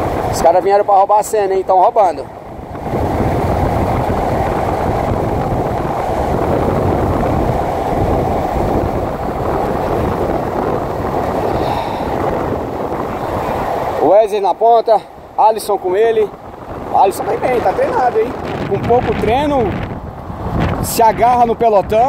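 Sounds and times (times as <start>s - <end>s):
bicycle tyres humming on asphalt: 0.0s - 22.0s
wind rushing on microphone: 0.0s - 22.0s.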